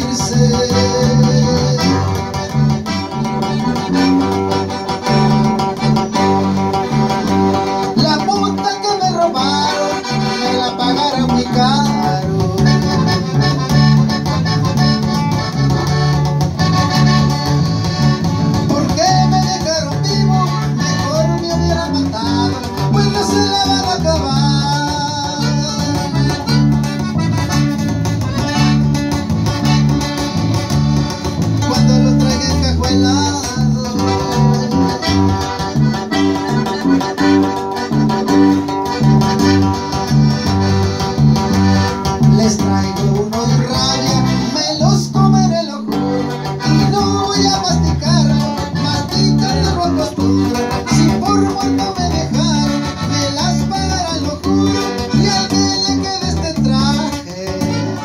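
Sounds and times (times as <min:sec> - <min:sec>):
accordion melody: 0:00.0 - 0:58.0
electric bass line: 0:00.0 - 0:58.0
strummed acoustic guitar: 0:00.0 - 0:58.0.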